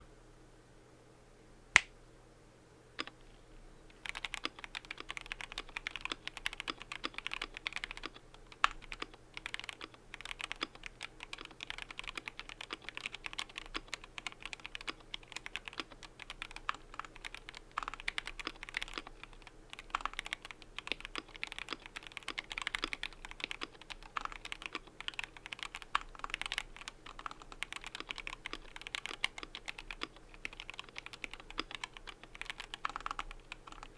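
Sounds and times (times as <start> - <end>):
mechanical keyboard typing: 3.9 - 33.9.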